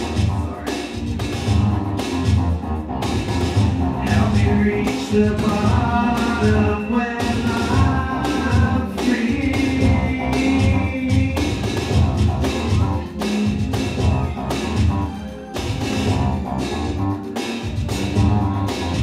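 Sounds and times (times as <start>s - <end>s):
electronic music with drum-machine beat: 0.0s - 19.0s.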